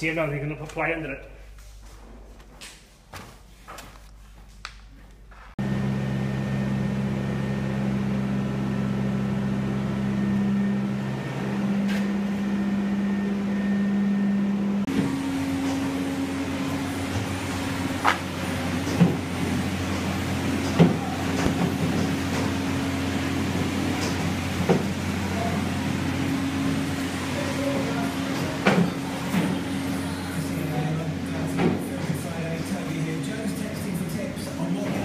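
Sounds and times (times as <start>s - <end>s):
low mechanical motor hum: 5.6s - 35.0s.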